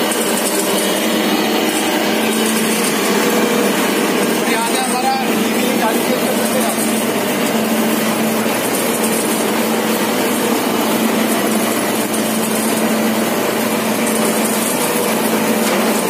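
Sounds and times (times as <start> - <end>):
mill machine humming and rushing: 0.0 - 16.0.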